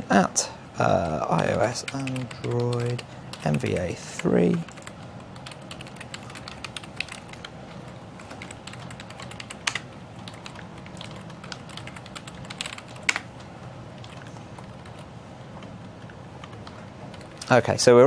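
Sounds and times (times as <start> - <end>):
keyboard typing: 0.8 - 17.6
loud keyboard clicks: 1.0 - 13.4, 14.0 - 17.6.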